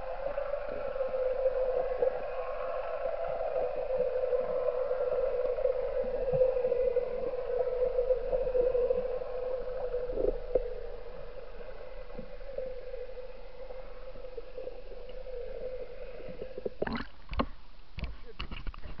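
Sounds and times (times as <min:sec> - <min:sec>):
underwater hum: 0:00.0 - 0:18.7.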